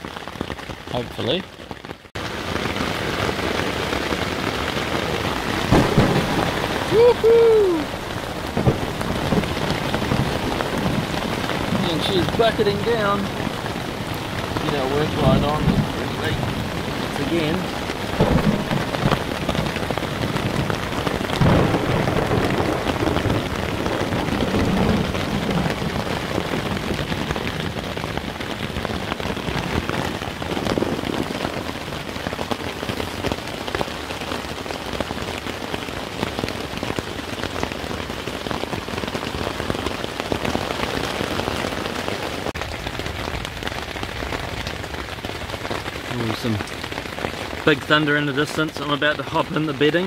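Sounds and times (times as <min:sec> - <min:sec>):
heavy rain on a tent: 0:00.0 - 0:50.0.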